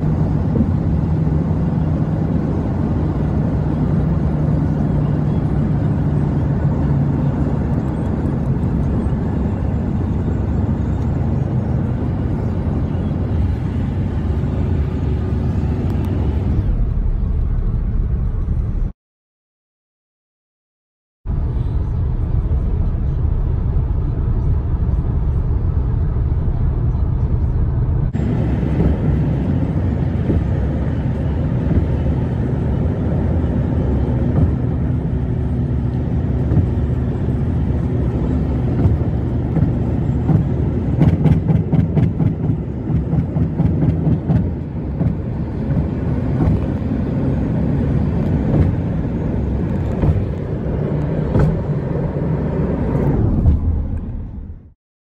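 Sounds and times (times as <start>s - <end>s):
car road and engine drone: 0.0s - 19.0s, 21.2s - 54.8s.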